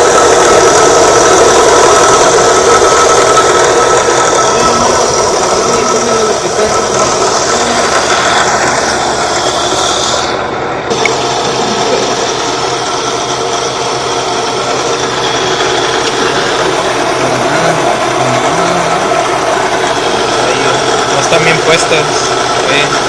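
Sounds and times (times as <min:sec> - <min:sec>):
electric motor running: 0:00.0 - 0:23.0.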